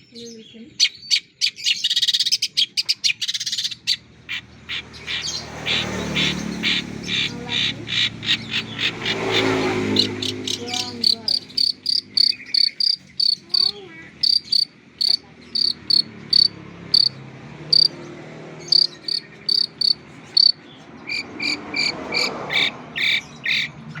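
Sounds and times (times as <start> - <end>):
bird singing sharp high chips: 0.8 - 4.0, 4.8 - 18.0, 18.6 - 24.0.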